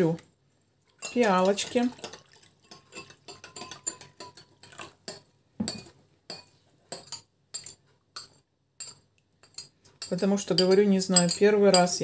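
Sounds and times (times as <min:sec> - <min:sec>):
teaspoon clinking in ceramic bowl: 0:01.0 - 0:12.0.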